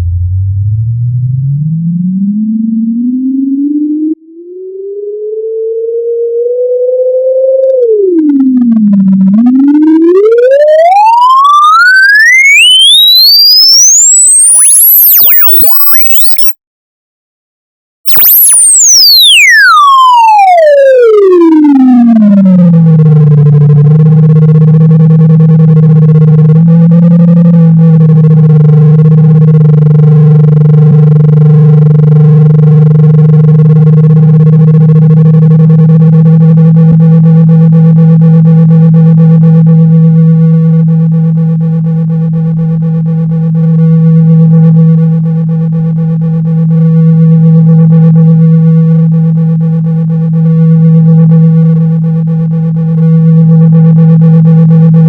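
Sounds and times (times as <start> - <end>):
electronic test tone gliding down: 0.0 - 16.6, 18.1 - 55.0.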